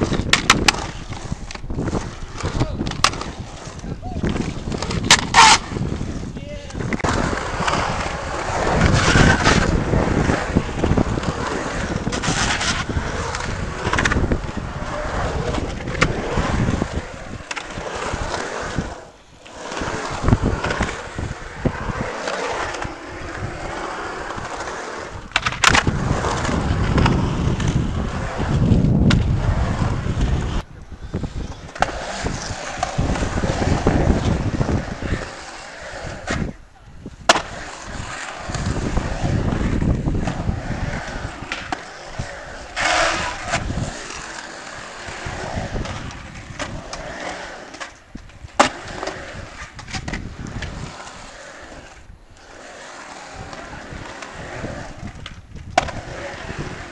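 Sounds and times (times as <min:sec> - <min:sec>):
skateboard clacks and scrapes: 0:00.0 - 0:56.9
skateboard wheels rolling on concrete: 0:00.0 - 0:56.9.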